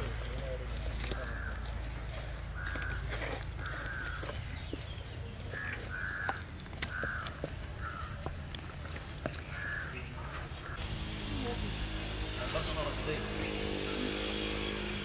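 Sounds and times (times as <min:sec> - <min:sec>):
crows cawing: 0:00.1 - 0:04.8, 0:05.4 - 0:08.4, 0:09.2 - 0:15.0.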